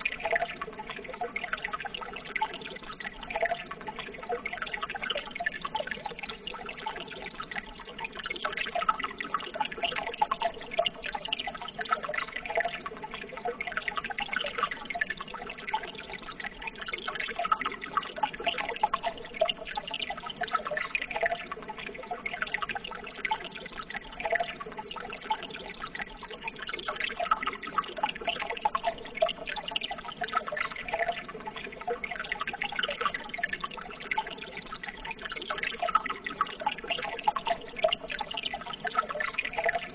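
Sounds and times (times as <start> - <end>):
water bubbling and trickling: 0.0 - 39.9.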